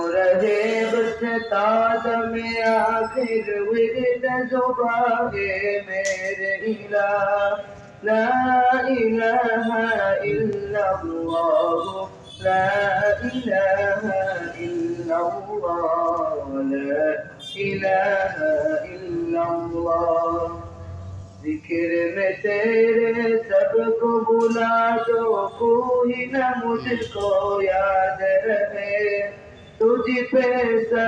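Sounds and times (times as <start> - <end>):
man singing a devotional song: 0.0 - 20.8, 21.4 - 31.0.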